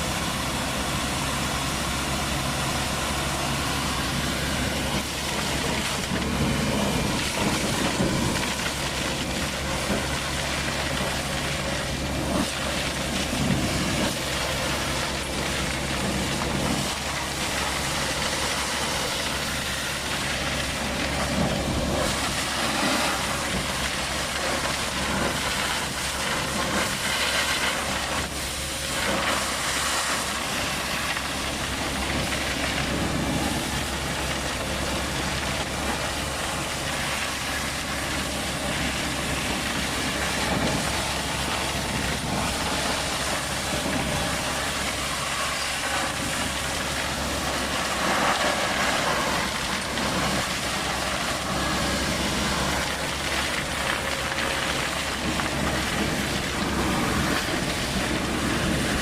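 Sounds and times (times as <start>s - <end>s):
engine and blower drone: 0.0s - 59.0s
loud rush of air: 0.0s - 59.0s.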